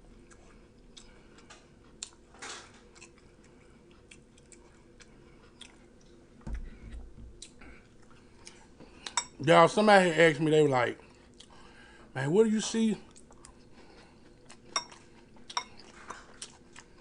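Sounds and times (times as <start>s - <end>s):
person chewing food: 0.1s - 9.3s, 11.0s - 11.8s, 13.0s - 17.0s.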